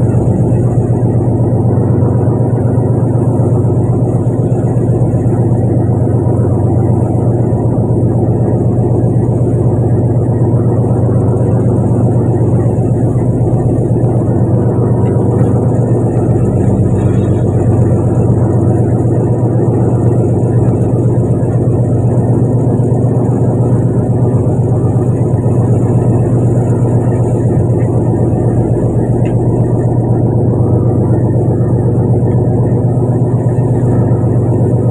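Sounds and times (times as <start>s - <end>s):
boat engine running: 0.0s - 34.9s.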